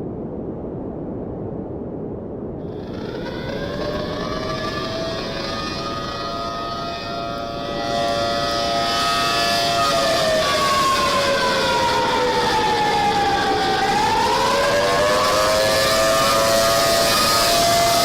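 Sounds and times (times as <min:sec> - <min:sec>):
civil defense siren wailing: 0:02.7 - 0:18.0.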